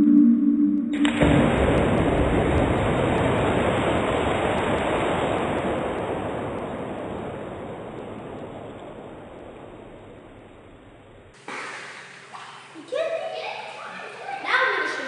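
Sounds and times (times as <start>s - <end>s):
water splashing in a pool: 1.0s - 15.0s.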